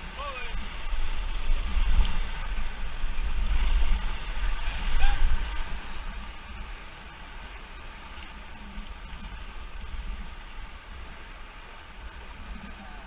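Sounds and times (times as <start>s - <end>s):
river water rushing: 0.0s - 13.0s
wind rumble on microphone: 0.0s - 13.0s.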